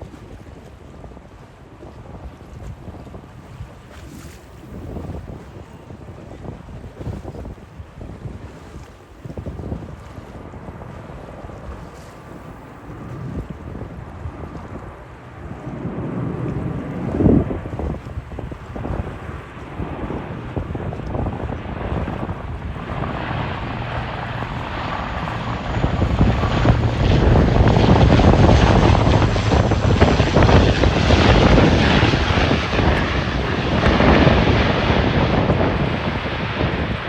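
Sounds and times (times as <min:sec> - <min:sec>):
airliner engines: 0:00.0 - 0:37.0.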